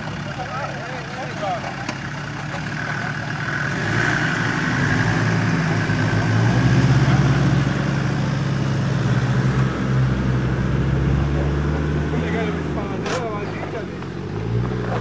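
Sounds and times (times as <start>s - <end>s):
off-road engine at low revs: 0.0s - 15.0s.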